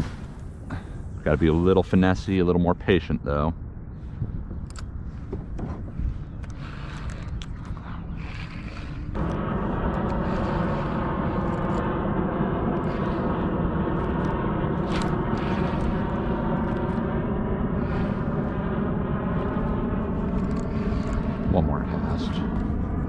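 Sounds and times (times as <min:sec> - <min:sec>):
engine drone: 0:03.6 - 0:23.0.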